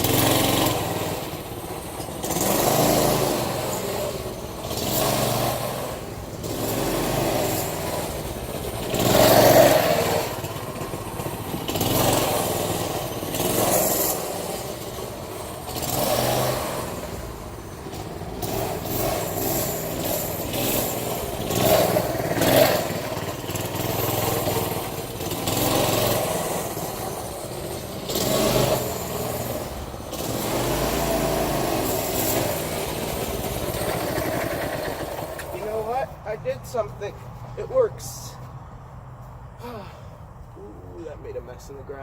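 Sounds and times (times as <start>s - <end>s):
small engine revving: 0.0s - 38.4s.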